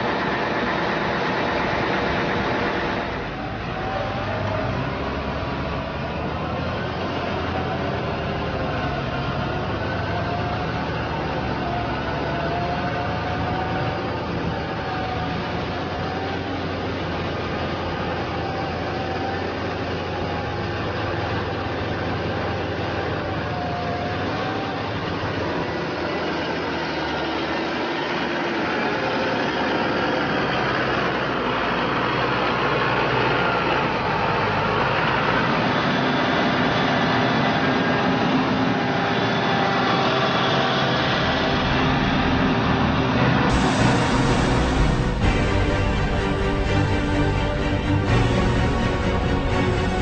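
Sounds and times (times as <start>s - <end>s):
heavy machinery engine running: 0.0s - 50.0s.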